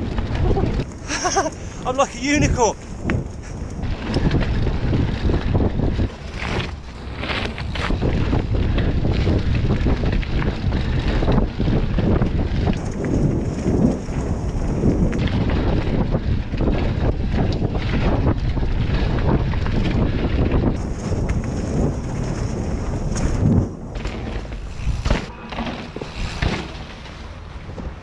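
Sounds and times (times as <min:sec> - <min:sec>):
bike knocking and rattling: 0:00.0 - 0:28.0
tyres rolling over dirt and leaves: 0:00.0 - 0:28.0
wind buffeting microphone: 0:00.0 - 0:28.0.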